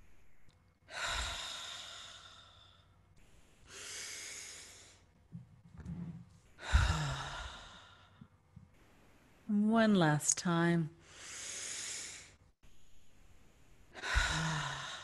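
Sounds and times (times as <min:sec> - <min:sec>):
deep breathing: 0:00.0 - 0:05.2, 0:05.8 - 0:09.4, 0:11.0 - 0:15.0.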